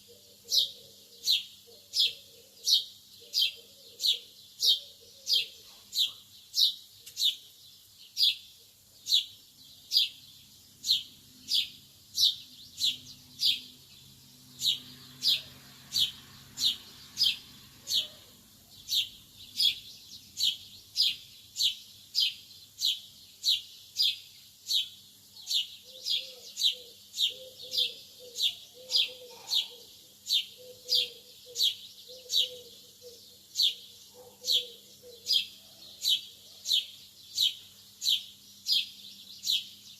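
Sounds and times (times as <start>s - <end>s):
lovebird chirping: 0.0s - 39.9s.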